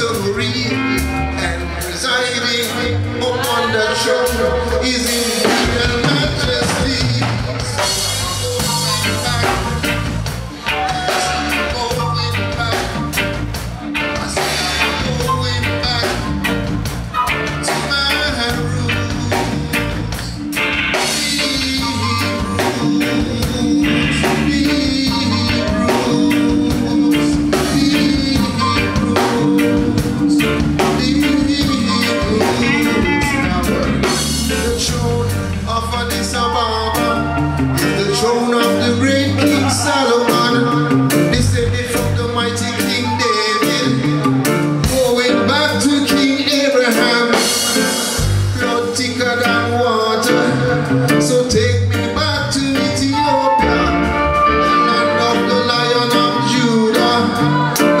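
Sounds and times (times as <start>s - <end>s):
bass guitar: 0.0s - 58.0s
drum kit beats: 0.0s - 58.0s
electric guitar: 0.0s - 58.0s
person singing: 0.0s - 58.0s.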